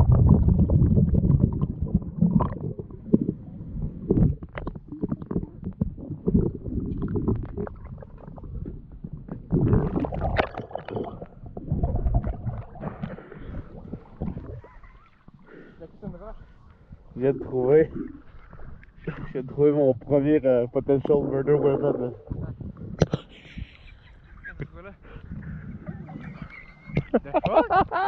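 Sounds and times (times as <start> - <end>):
underwater rumbling and bubbling: 0.0 - 28.0.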